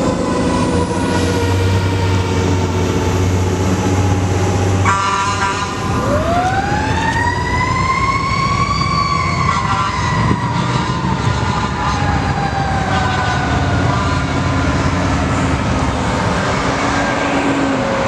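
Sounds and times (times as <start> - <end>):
fire truck siren wailing: 0.0 - 18.0
truck engine rumbling: 0.0 - 18.0.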